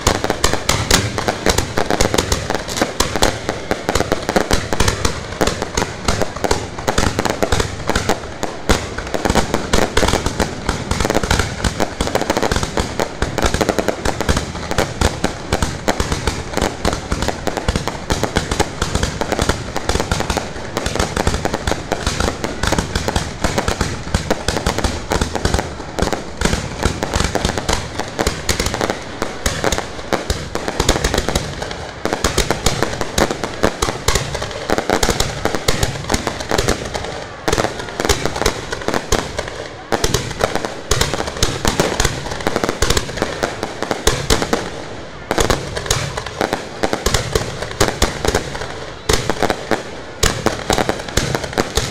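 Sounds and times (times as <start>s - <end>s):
fireworks crackling bursts: 0.0s - 51.9s
fireworks launch bangs: 0.0s - 51.9s.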